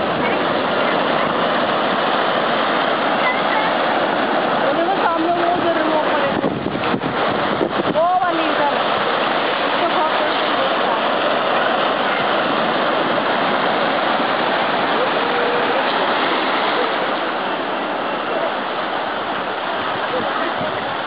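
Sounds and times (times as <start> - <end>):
surf breaking over rocks: 0.0 - 21.0.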